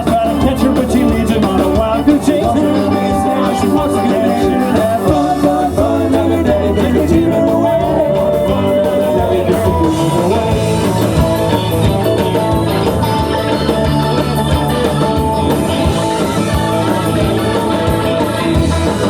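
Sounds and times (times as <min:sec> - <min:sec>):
live rock and roll band: 0:00.0 - 0:19.0
saxophone: 0:00.1 - 0:19.0.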